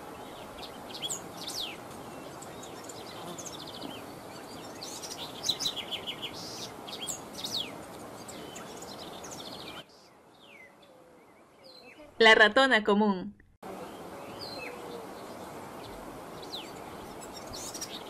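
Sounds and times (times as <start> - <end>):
background hiss: 0.0 - 12.7, 13.6 - 18.0
songbirds chirping: 0.0 - 12.8, 13.6 - 18.0.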